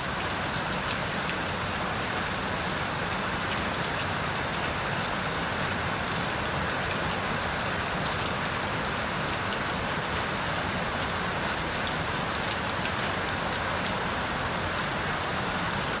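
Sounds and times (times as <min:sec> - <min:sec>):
rain pattering on surfaces: 0:00.0 - 0:16.0.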